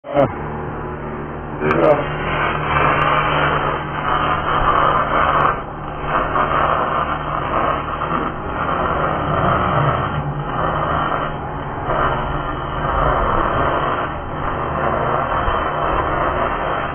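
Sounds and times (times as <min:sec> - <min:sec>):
welding arc crackling: 0:01.3 - 0:16.9.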